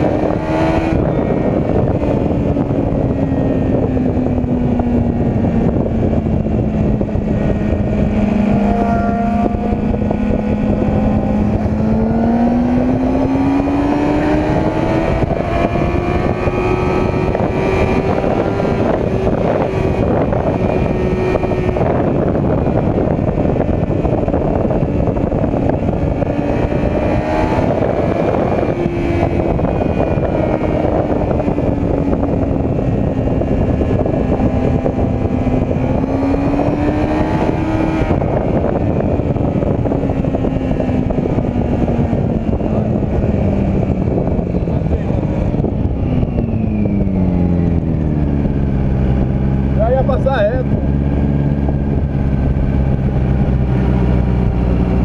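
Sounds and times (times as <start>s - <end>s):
motorcycle engine running: 0.0s - 55.0s
wind rush: 0.0s - 55.0s.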